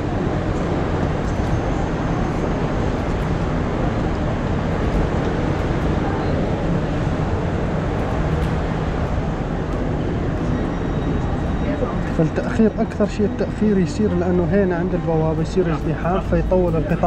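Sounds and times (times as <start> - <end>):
train interior rumble and hiss: 0.0 - 17.0.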